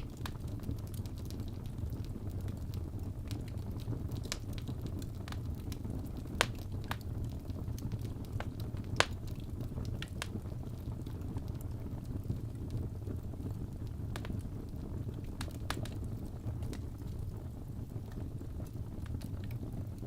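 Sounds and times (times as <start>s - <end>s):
fire flames rumbling: 0.0s - 20.0s
logs crackling and popping: 0.0s - 20.0s.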